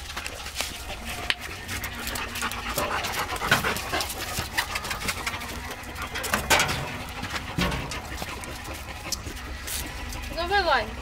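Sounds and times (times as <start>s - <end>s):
dogs panting: 0.0s - 11.0s
paws scuffing on concrete: 0.0s - 11.0s.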